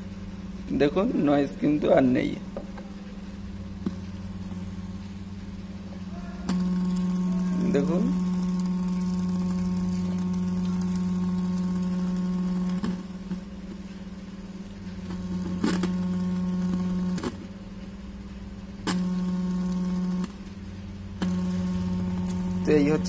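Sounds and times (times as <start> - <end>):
speaker buzzing: 0.0 - 23.0.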